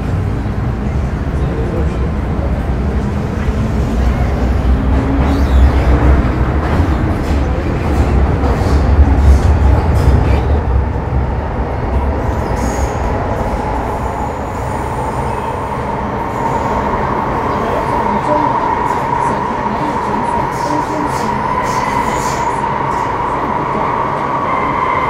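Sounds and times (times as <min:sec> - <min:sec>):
train rumbling through tunnel: 0:00.0 - 0:25.0.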